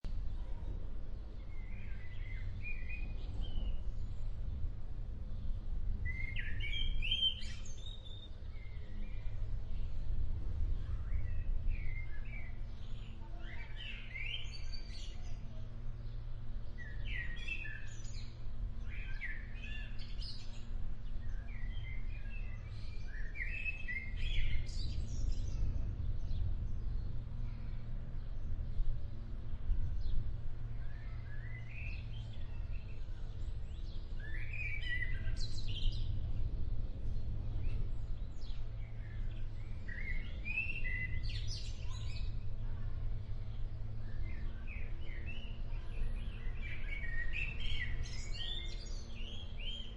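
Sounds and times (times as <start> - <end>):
songbirds chirping: 0.0 - 49.9
steady low rumble: 0.0 - 49.9.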